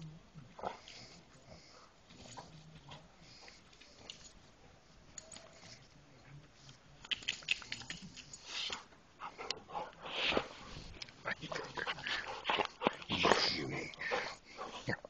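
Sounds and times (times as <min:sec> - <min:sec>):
dogs sniffing and snuffling: 0:00.0 - 0:15.0.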